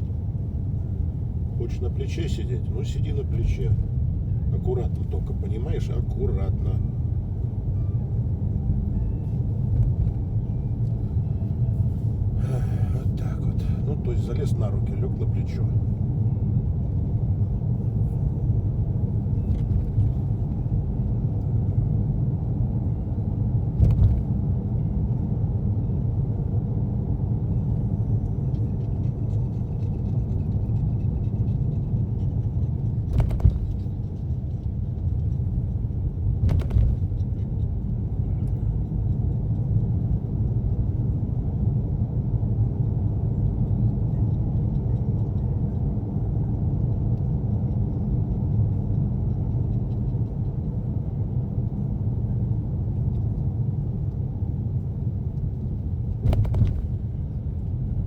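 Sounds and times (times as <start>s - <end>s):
road and engine rumble: 0.0s - 58.0s.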